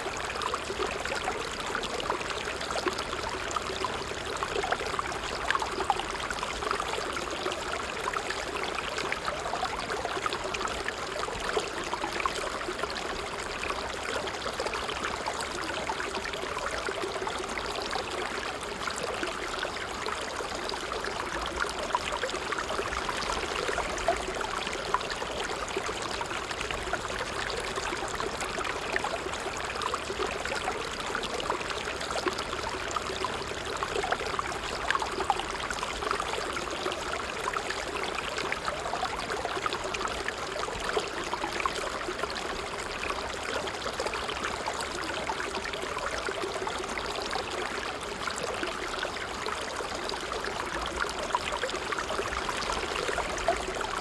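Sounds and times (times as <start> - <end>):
small water splashes and drips: 0.0 - 54.0
water trickling over stones: 0.0 - 54.0.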